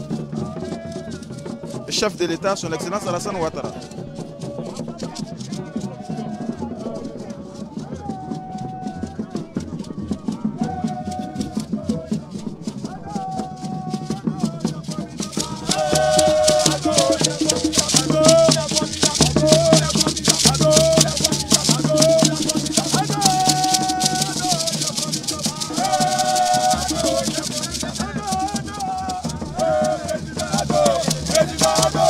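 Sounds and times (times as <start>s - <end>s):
group of people singing: 0.0s - 32.0s
hand rattles shaking: 0.0s - 32.0s.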